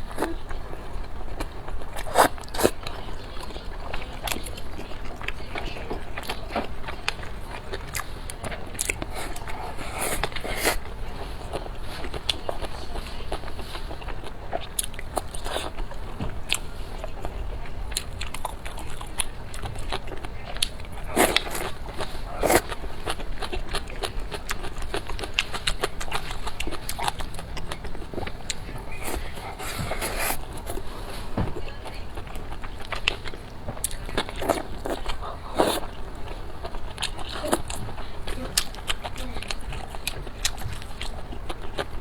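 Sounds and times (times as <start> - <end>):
biting and chewing: 0.0 - 42.0.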